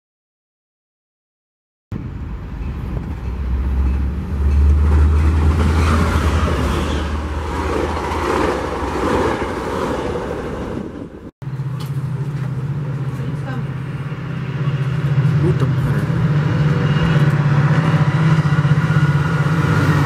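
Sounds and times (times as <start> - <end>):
diesel locomotive engine drone: 1.9 - 20.0
rumble of train wheels on rails: 2.0 - 20.0.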